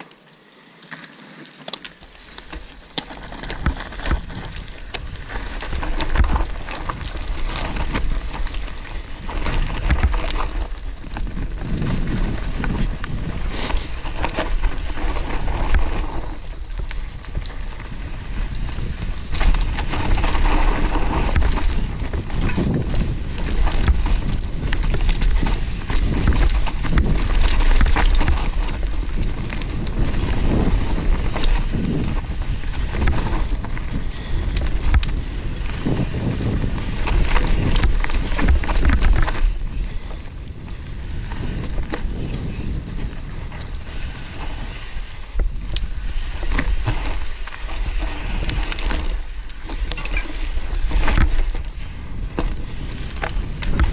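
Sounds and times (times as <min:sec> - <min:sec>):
tyres rolling over dirt and stones: 0:00.0 - 0:53.9
bike rattling over bumps: 0:00.8 - 0:53.9
wind buffeting microphone: 0:02.1 - 0:53.9.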